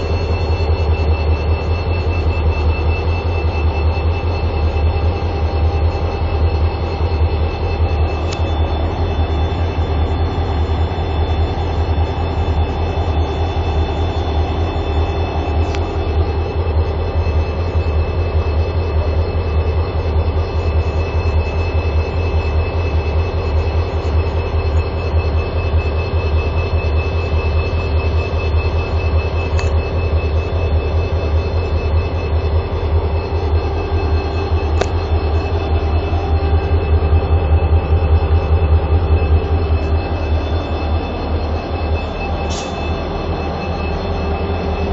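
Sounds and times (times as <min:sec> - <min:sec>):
freight locomotives running: 0:00.0 - 0:44.9.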